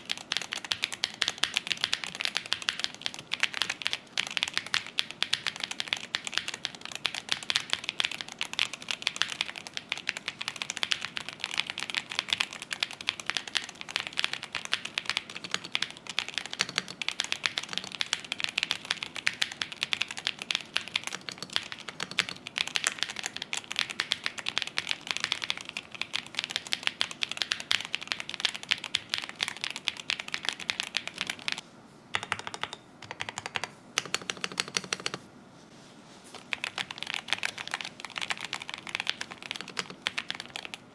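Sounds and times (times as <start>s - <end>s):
mechanical keyboard typing: 0.0s - 31.6s, 32.2s - 35.2s, 36.4s - 40.9s.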